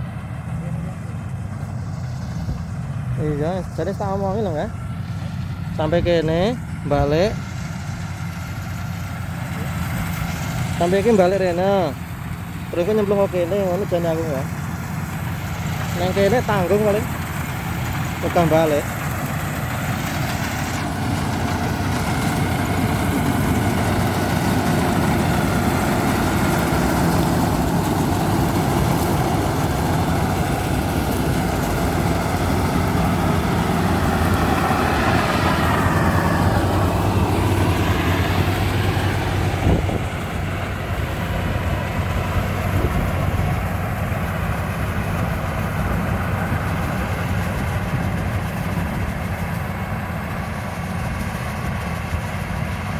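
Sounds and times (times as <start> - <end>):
combine harvester engine running: 0.0 - 52.9.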